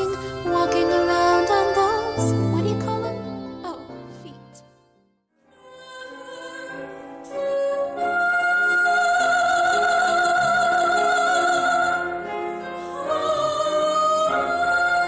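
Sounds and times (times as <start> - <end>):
soprano singing operatic style: 0.0 - 4.6, 5.4 - 15.0.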